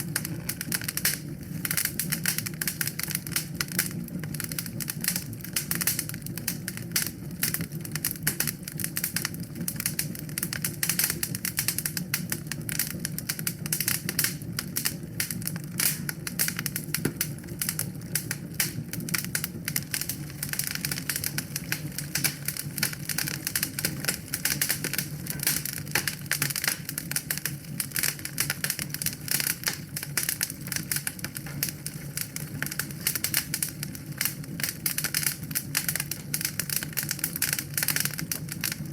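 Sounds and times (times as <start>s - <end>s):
low rumble of flames: 0.0s - 38.9s
wood fire crackling: 0.0s - 38.9s.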